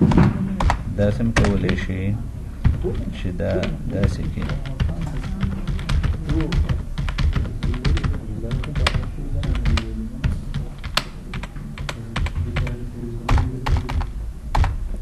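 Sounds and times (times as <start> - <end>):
computer keyboard typing: 0.6 - 2.0, 2.6 - 14.8.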